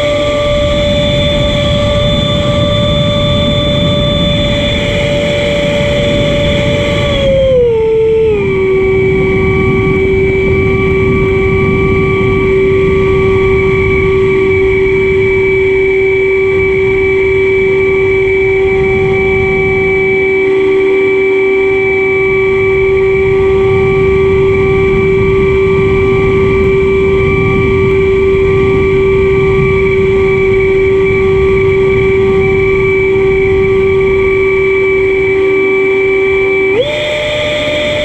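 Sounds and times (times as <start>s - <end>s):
model plane motor whine: 0.0s - 38.0s
rough wind noise: 0.0s - 38.0s.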